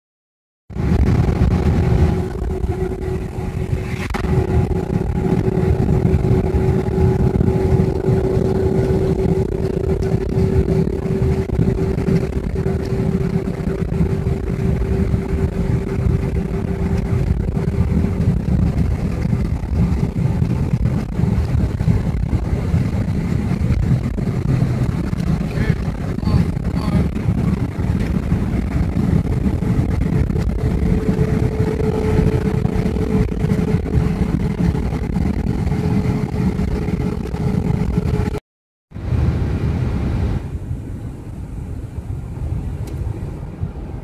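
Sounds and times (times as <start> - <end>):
constant hum: 0.7 - 38.4, 39.0 - 44.0
car engine and road rumble: 0.7 - 44.0.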